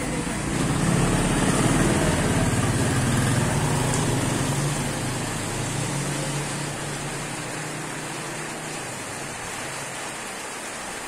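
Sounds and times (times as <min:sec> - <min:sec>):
scooter engine passing by: 0:00.0 - 0:09.3.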